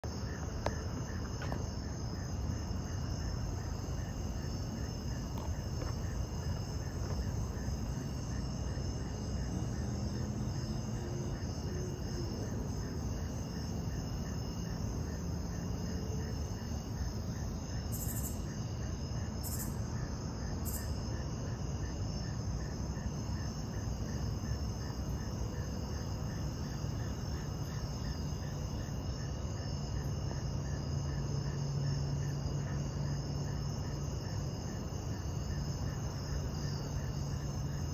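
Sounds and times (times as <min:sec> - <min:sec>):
crickets trilling: 0:00.0 - 0:37.9.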